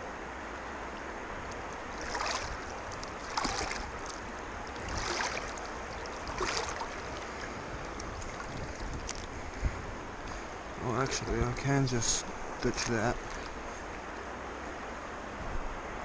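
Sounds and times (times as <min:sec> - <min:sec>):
stream water running: 0:00.0 - 0:16.0
water splashes and sloshes: 0:00.0 - 0:16.0.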